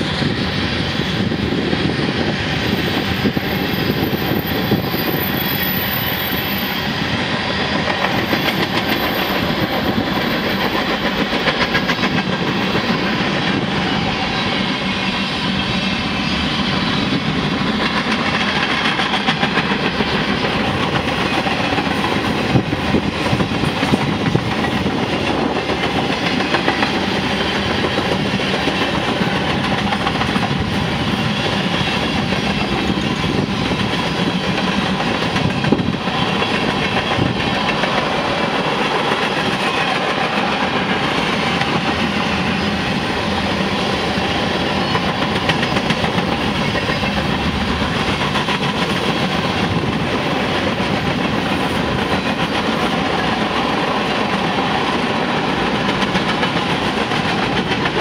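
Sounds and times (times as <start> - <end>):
train wheels rolling on rail: 0.0 - 58.0.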